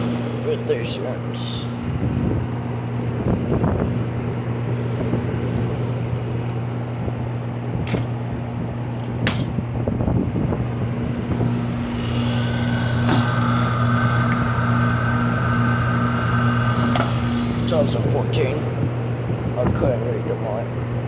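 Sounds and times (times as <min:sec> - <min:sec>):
compressor hum: 0:00.0 - 0:21.0
condenser fans whooshing: 0:00.0 - 0:21.0.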